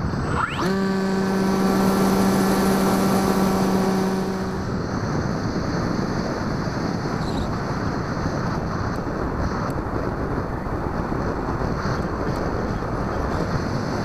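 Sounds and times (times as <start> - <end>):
airflow rushing over microphone: 0.0 - 14.0.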